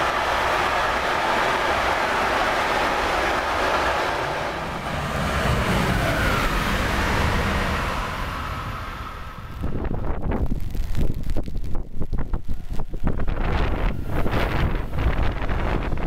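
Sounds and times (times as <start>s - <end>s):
freight train wheels rushing on rails: 0.0s - 10.4s, 12.2s - 16.0s.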